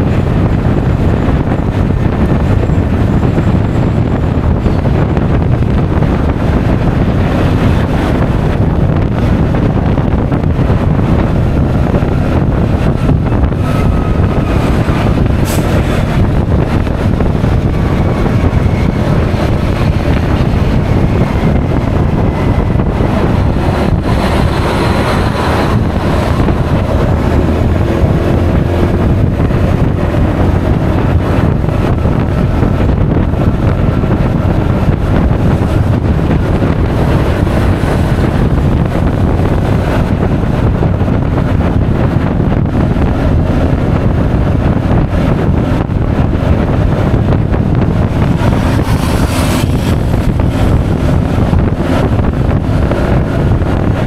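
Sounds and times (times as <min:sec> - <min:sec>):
road noise: 0:00.0 - 0:54.0
wind rushing on microphone: 0:00.0 - 0:54.0
scooter engine: 0:02.5 - 0:54.0.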